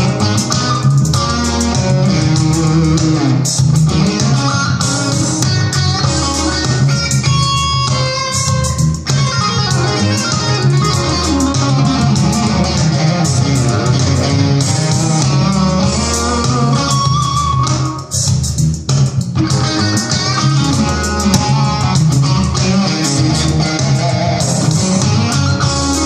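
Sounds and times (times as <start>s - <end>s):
backing track with bass guitar: 0.0s - 26.0s
electric guitar lead: 0.0s - 26.0s.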